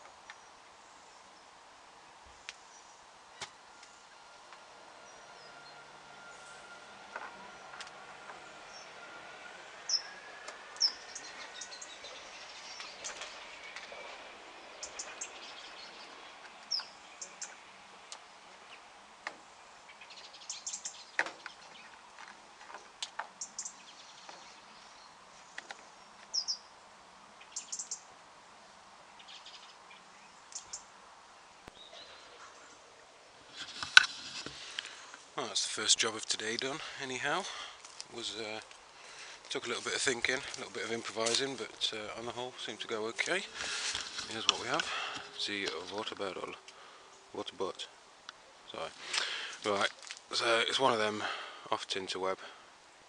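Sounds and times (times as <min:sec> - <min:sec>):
small birds chirping: 0:00.0 - 0:28.2, 0:29.0 - 0:51.6.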